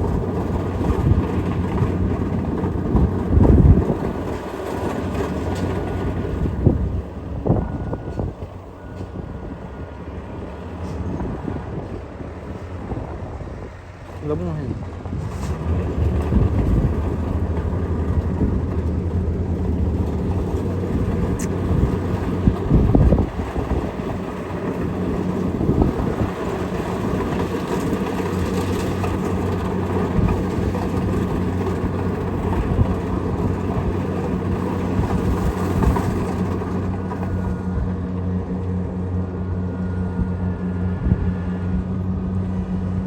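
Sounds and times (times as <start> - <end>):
combine harvester drone: 0.0 - 43.0
low rumble: 0.0 - 43.0.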